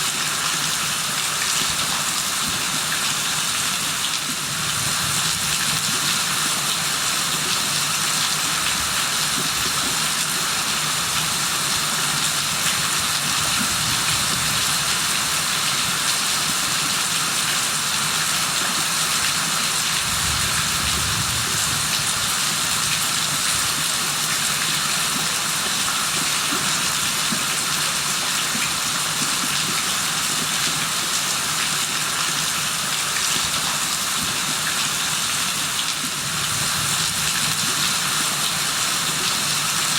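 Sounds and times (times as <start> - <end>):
steady rain hiss: 0.0 - 29.3, 29.9 - 39.9.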